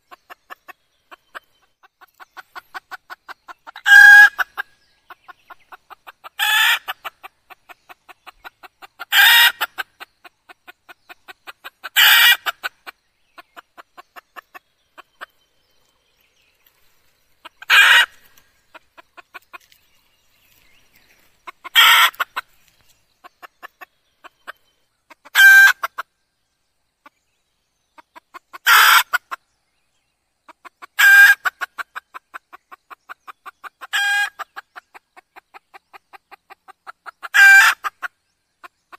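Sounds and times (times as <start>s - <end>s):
hen soft clucks: 0.0s - 16.0s, 17.4s - 26.1s, 30.4s - 38.9s.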